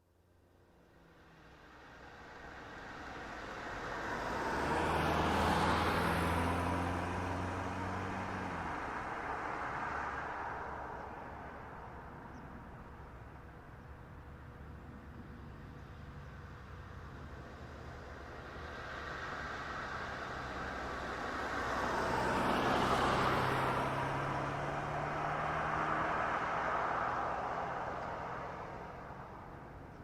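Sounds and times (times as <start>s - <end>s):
car driving past: 1.2s - 12.4s, 15.6s - 30.0s.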